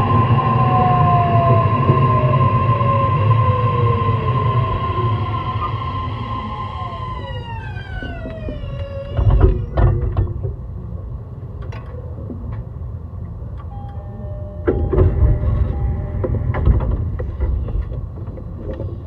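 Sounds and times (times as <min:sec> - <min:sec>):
train motors whining: 0:00.0 - 0:19.0.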